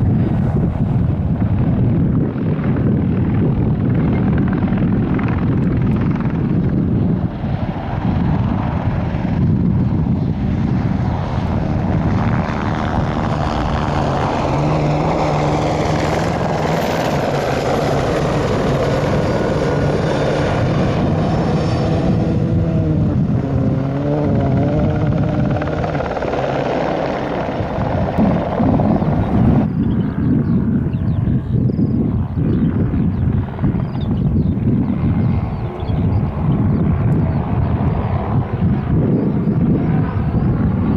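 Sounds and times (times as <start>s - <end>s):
helicopter rotor and engine: 0.0s - 40.9s
high turbine whine: 0.0s - 40.9s.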